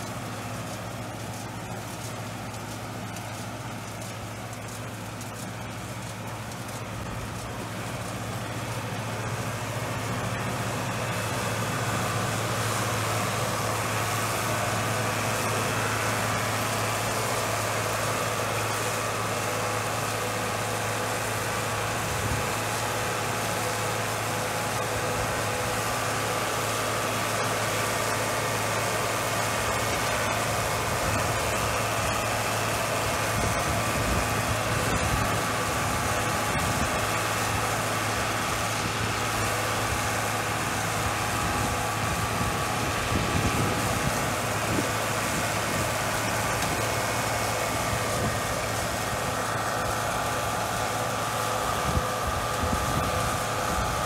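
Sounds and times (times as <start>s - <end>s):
baler baling hay: 0.0s - 54.0s
diesel tractor engine running: 0.0s - 54.0s.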